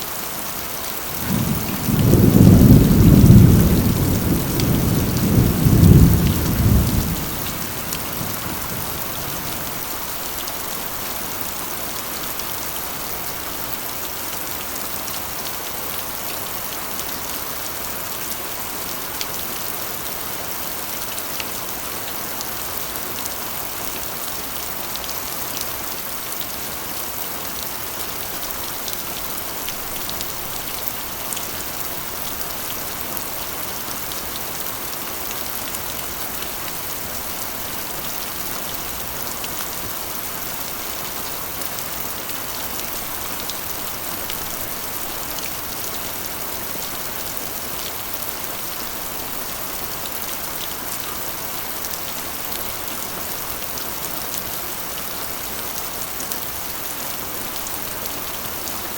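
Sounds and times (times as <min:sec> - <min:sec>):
rain on a metal roof: 0:00.0 - 0:58.9.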